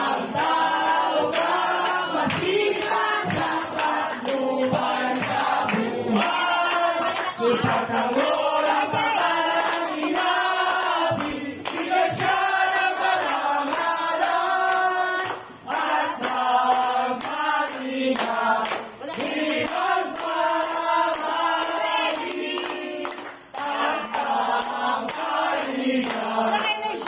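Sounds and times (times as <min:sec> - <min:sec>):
men and women singing together: 0:00.0 - 0:27.0
people clapping: 0:00.0 - 0:27.0.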